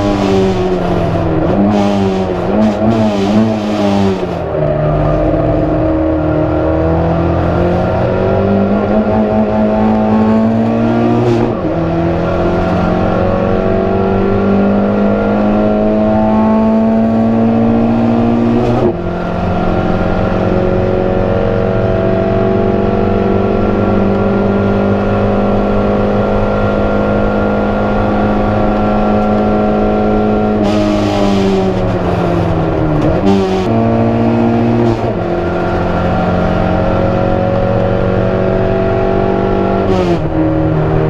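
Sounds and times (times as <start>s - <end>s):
race car engine at high revs: 0.0s - 41.0s.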